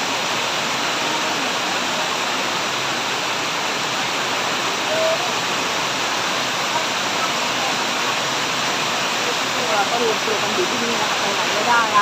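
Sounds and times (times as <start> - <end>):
heavy rain: 0.0 - 12.0
rushing floodwater: 0.0 - 12.0.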